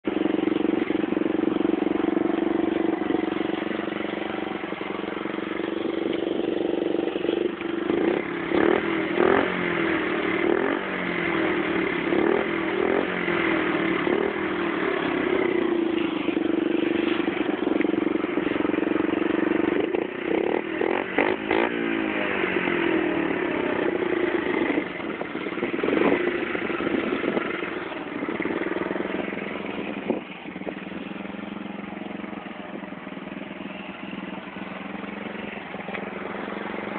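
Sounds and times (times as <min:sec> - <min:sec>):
small motorcycle engine revving: 0:00.0 - 0:36.9.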